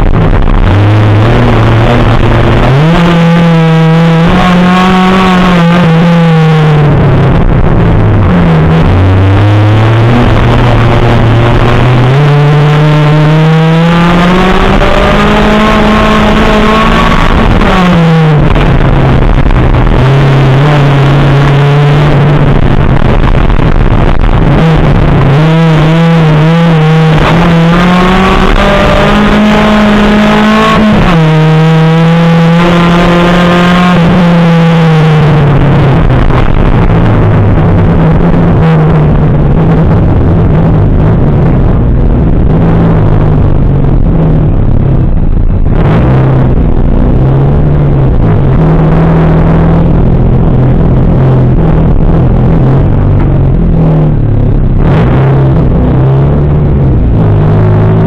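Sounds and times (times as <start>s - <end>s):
car engine revving hard: 0.0s - 58.0s
gravel and road noise: 0.0s - 58.0s.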